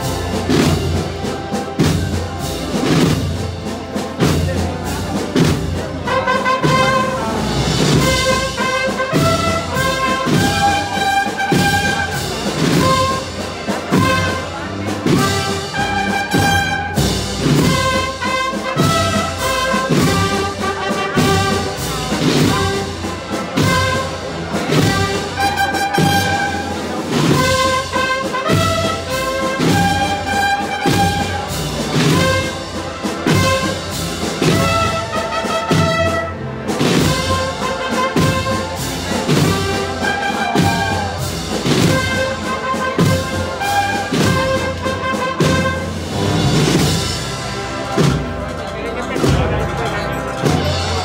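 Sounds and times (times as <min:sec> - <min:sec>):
brass band playing slow march: 0:00.0 - 0:51.0
steady drum beat: 0:00.0 - 0:51.0.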